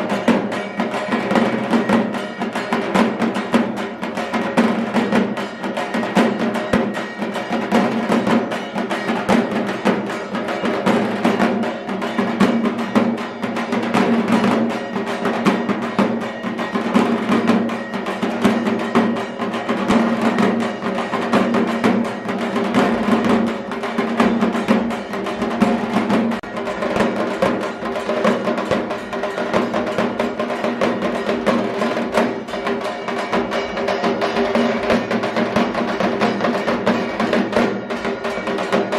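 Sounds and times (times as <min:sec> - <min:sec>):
fast drumming: 0:00.0 - 0:38.9.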